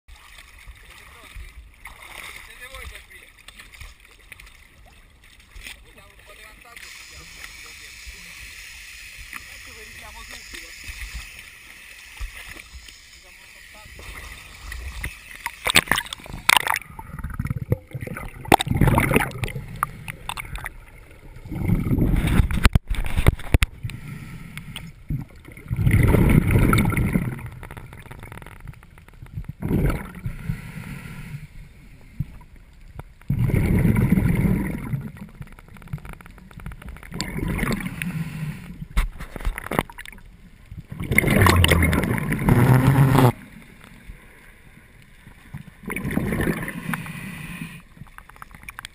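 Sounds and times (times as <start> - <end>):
water splashing: 0.1 - 30.4, 32.0 - 48.9
underwater exhaust bubbling: 6.6 - 39.0, 39.7 - 44.2, 45.5 - 48.9.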